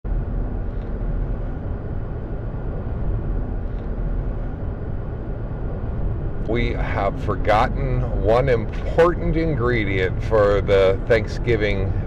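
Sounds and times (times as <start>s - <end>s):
vehicle interior road rumble: 0.1s - 12.0s.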